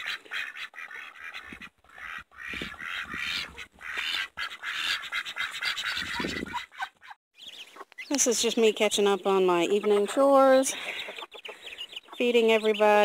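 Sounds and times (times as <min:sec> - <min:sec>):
ducks quacking: 0:00.0 - 0:08.3, 0:09.0 - 0:13.0.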